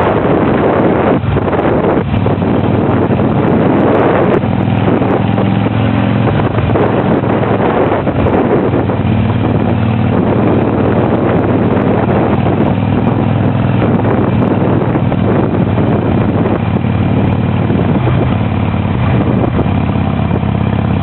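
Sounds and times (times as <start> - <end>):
motorcycle engine running: 0.0 - 21.0
wind rush over microphone: 0.0 - 21.0.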